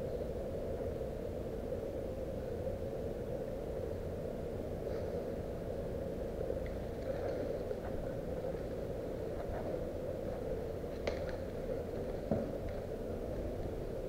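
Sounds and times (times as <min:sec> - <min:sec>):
wind rumble: 0:00.0 - 0:14.0.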